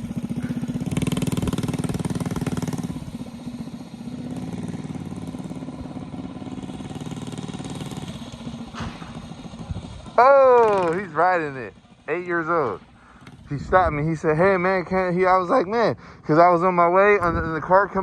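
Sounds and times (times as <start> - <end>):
mini bike engine running: 0.0 - 15.7.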